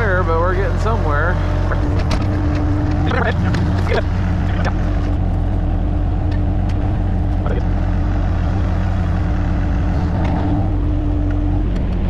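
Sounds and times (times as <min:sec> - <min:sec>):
diesel engine humming: 0:00.0 - 0:12.0
steady whine: 0:00.0 - 0:12.0.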